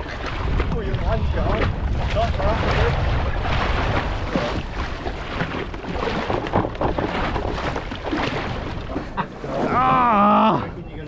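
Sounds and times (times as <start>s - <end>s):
choppy sea washing: 0.0s - 11.0s
wind buffeting microphone: 0.0s - 11.0s.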